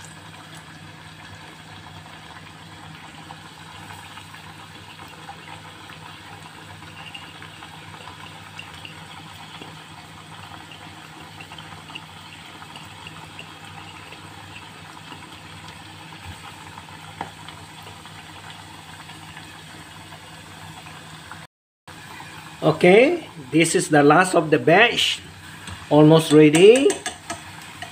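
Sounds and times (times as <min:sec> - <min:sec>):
hot oil bubbling and sizzling: 0:00.0 - 0:27.9.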